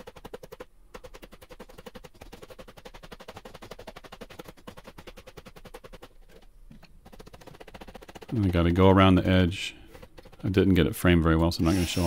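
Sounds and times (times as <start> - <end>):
hammer tapping rubber sole: 0.0 - 10.8.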